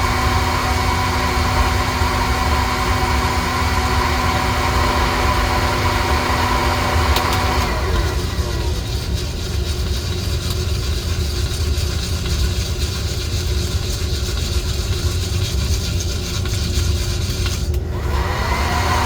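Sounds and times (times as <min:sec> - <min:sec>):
coffee roaster motor and fan rumble: 0:00.0 - 0:19.0.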